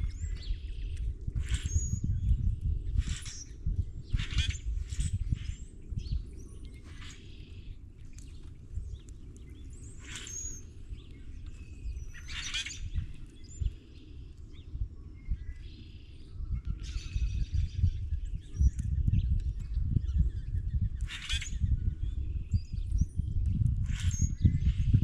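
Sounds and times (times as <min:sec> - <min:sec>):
small bird chirps: 0:00.0 - 0:14.3, 0:15.3 - 0:25.0.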